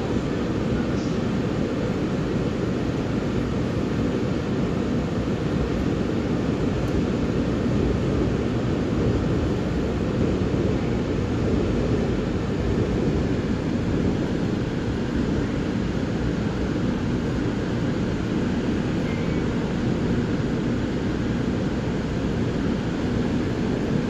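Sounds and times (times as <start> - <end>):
train rumble inside passenger car: 0.0 - 24.0.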